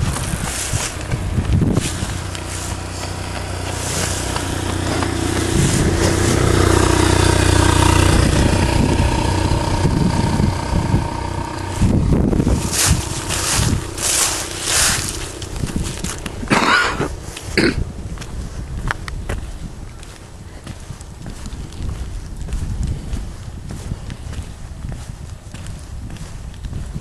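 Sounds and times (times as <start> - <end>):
vehicle passing engine rumble: 0.0 - 26.7
wind or handling noise on microphone: 0.0 - 27.0.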